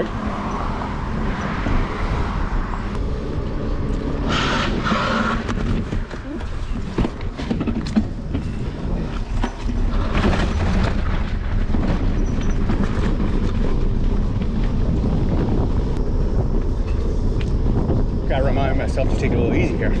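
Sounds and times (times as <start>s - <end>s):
bike rattling over bumps: 0.0s - 20.0s
wind on microphone: 0.0s - 20.0s
bicycle tyres rumbling on dirt: 0.1s - 20.0s.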